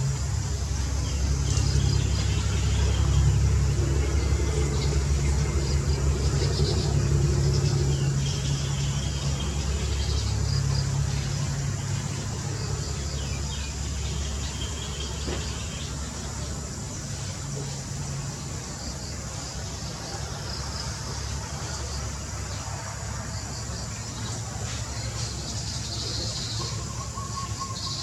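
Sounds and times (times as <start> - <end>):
high chirps of birds or insects: 0.0 - 28.0
low engine hum: 0.0 - 28.0.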